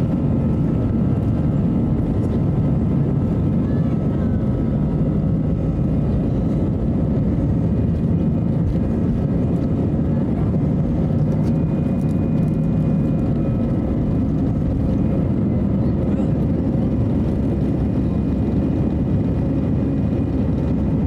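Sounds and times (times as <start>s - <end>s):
airplane engines and airflow rumble: 0.0s - 21.0s.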